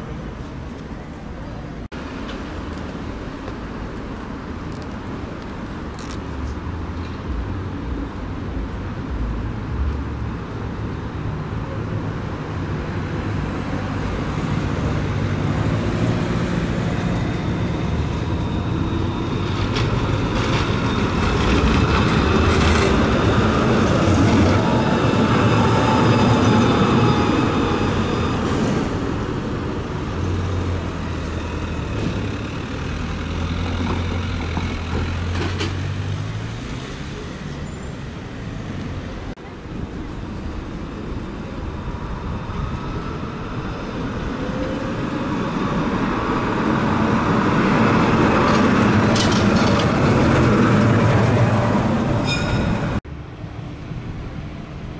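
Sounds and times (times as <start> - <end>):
street traffic hum: 0.0 - 54.9
tram high whine: 0.0 - 54.9
tram wheels rumbling on rails: 0.0 - 54.9.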